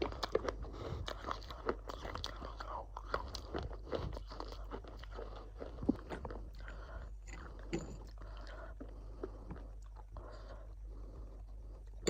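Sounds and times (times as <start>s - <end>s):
person chewing crunchy food: 0.0s - 12.0s.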